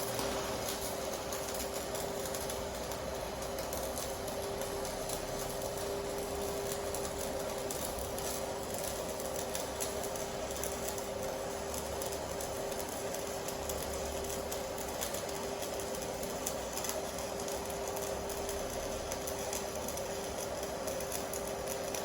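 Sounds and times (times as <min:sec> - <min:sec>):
welding arc buzzing: 0:00.0 - 0:22.0.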